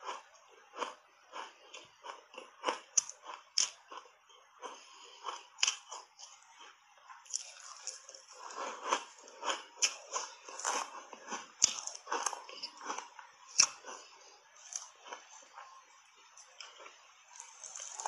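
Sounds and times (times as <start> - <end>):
crunchy ice being chewed: 0.0 - 18.0.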